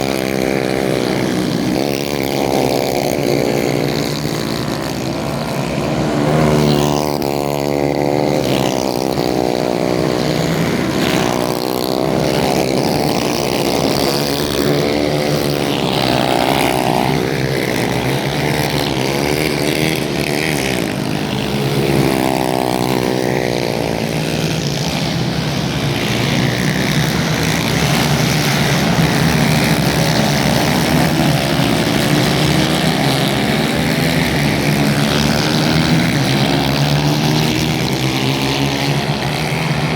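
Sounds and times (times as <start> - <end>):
kart engines revving high: 0.0 - 39.9.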